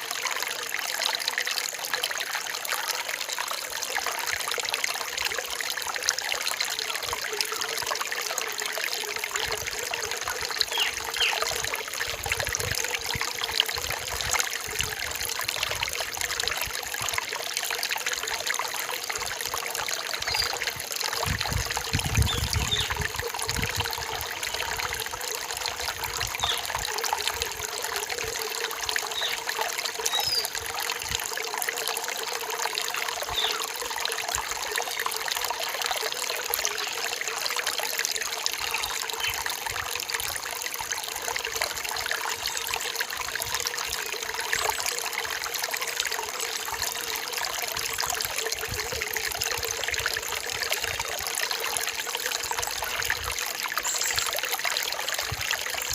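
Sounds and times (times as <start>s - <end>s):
forest stream flowing: 0.0s - 55.9s.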